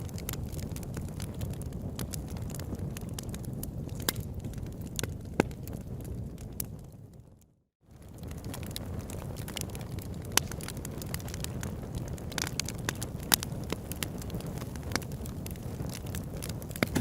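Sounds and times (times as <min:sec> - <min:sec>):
low rush of flame: 0:00.0 - 0:07.2, 0:07.9 - 0:17.0
campfire crackling: 0:00.0 - 0:17.0.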